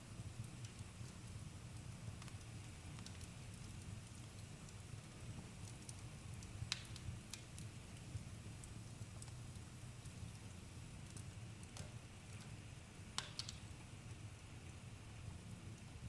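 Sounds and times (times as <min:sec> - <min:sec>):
fire crackles and pops: 0:00.0 - 0:16.0.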